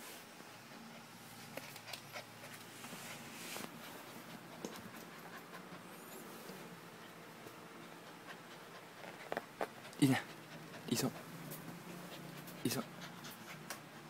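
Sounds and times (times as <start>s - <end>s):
puppy breathing and sniffing: 0.6s - 14.0s.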